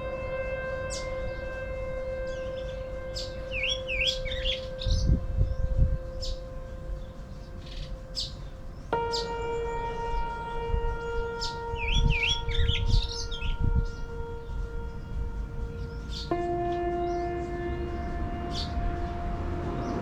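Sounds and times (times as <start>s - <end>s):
birds chirping: 0.0s - 20.0s
long held drone tones: 0.0s - 20.0s
low rumble: 0.0s - 20.0s.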